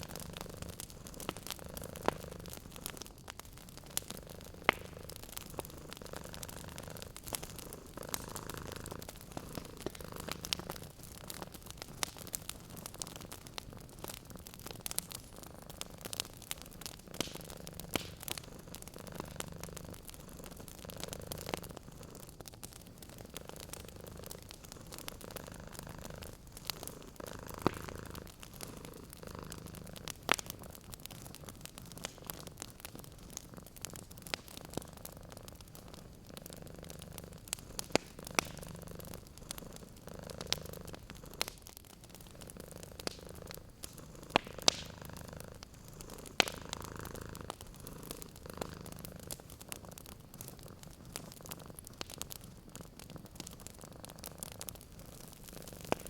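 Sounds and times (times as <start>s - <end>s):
cat purring: 0.0s - 56.0s
wood fire crackling: 0.0s - 56.0s.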